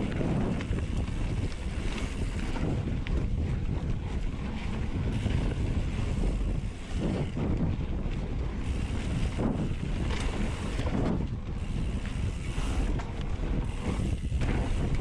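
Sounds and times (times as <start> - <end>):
bike tyres on dirt: 0.0 - 15.0
wind buffeting microphone: 0.0 - 15.0.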